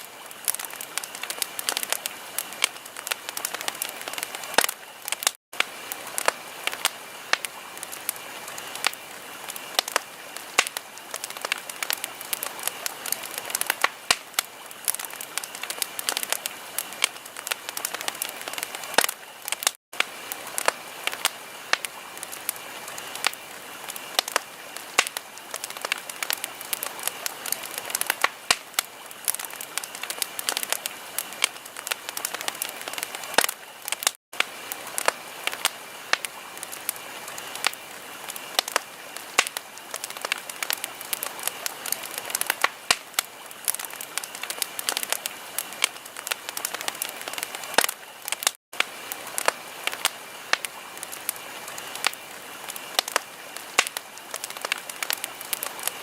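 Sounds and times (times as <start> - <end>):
soft fire hiss: 0.0 - 56.0
wood fire crackling: 0.0 - 56.0.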